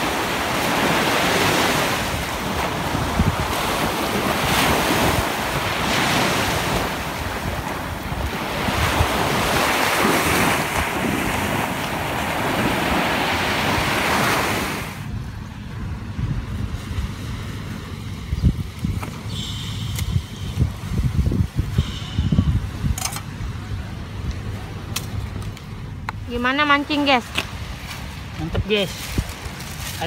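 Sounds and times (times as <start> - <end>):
small waves breaking on beach: 0.0 - 22.9, 26.4 - 30.0
wind buffeting microphone: 0.0 - 30.0.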